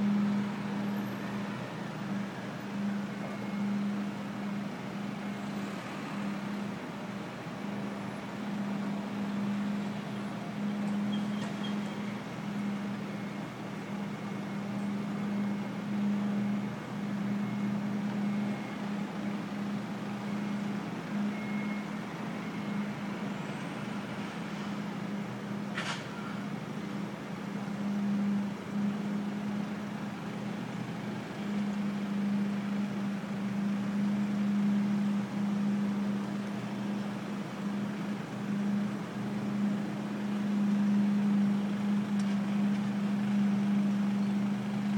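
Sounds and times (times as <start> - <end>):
city background noise: 0.0 - 44.9
machinery droning: 0.0 - 44.9.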